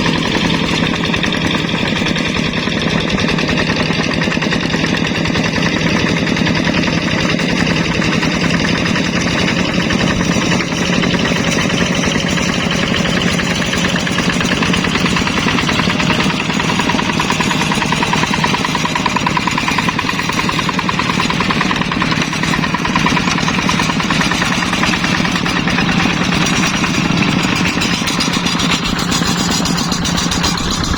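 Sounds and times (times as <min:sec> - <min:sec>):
diesel engine chugging: 0:00.0 - 0:30.9.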